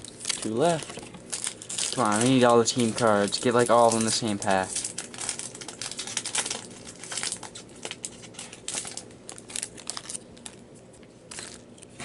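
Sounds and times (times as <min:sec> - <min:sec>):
foil wrapper tearing and crinkling: 0:00.0 - 0:12.0.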